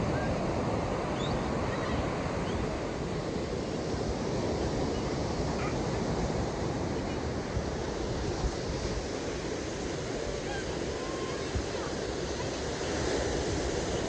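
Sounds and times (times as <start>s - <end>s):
surf breaking on beach: 0.0s - 14.0s
wind on microphone: 0.0s - 14.0s.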